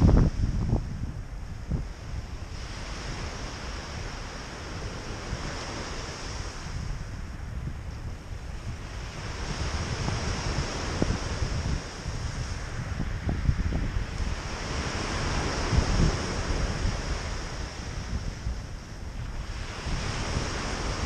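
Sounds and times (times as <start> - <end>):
wind buffeting microphone: 0.0 - 21.0
waves washing on pebble beach: 1.9 - 7.1, 8.2 - 21.0.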